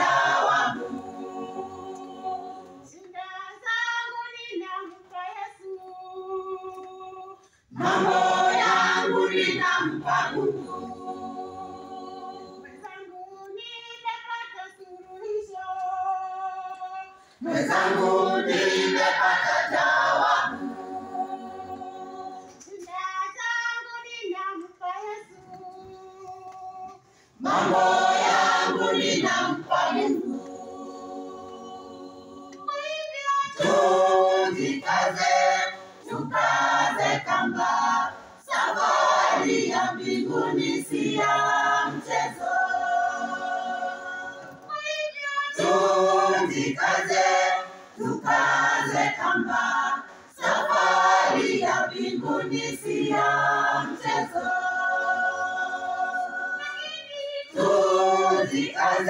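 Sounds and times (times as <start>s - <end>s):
church choir singing gospel: 0.0s - 4.6s, 5.6s - 23.0s, 25.1s - 59.0s.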